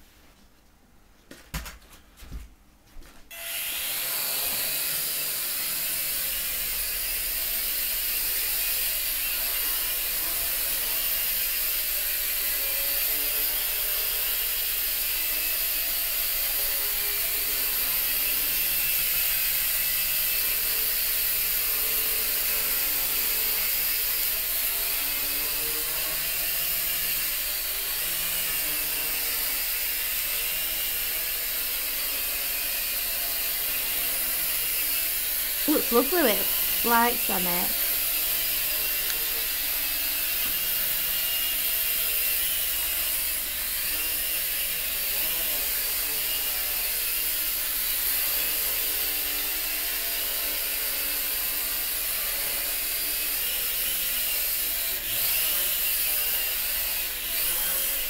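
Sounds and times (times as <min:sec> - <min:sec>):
quadcopter motors buzzing: 0:03.3 - 0:58.0.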